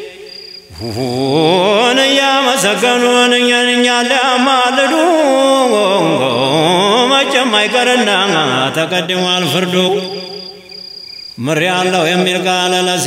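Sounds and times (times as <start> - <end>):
man chanting devotional song: 0.0 - 10.6, 11.2 - 13.0.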